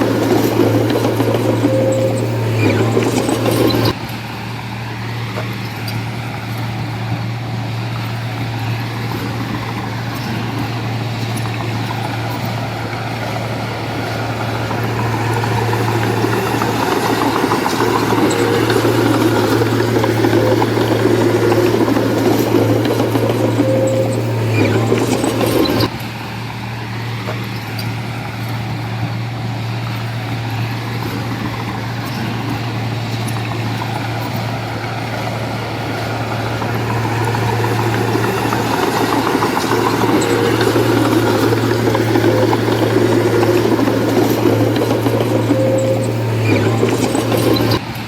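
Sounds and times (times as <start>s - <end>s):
heavy diesel engine droning: 0.0s - 48.0s.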